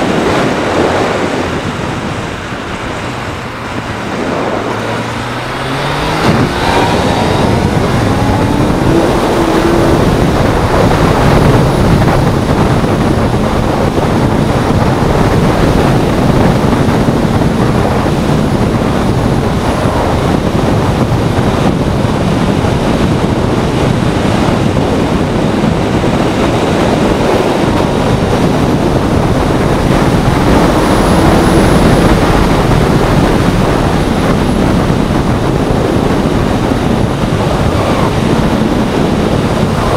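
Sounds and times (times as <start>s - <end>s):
motorcycle engine running at speed: 0.0s - 39.9s
rush of wind and road noise: 0.0s - 39.9s.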